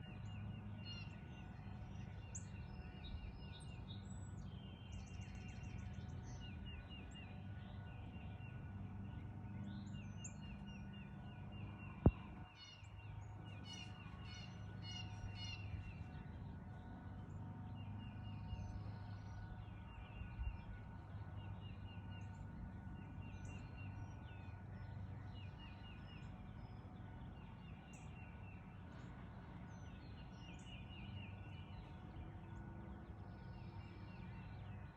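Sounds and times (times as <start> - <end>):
songbirds singing and chirping: 0.0 - 34.9
steady low hum: 0.0 - 34.9.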